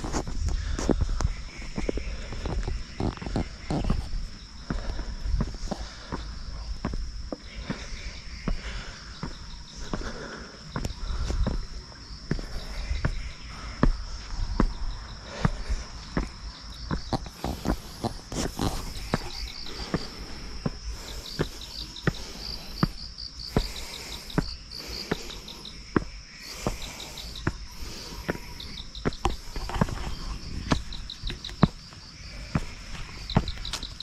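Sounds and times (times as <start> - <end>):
footsteps walking: 0.0 - 34.0
insects chirping: 0.0 - 34.0.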